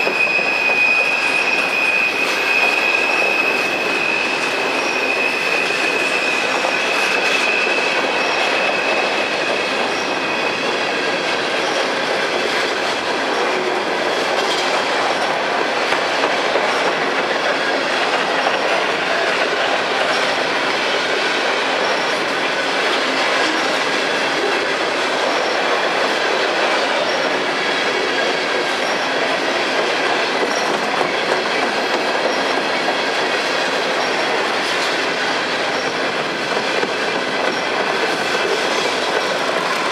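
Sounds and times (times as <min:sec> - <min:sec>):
high wheel squeal: 0:00.0 - 0:14.0, 0:14.6 - 0:39.9
freight train wheels rumbling: 0:00.0 - 0:39.9.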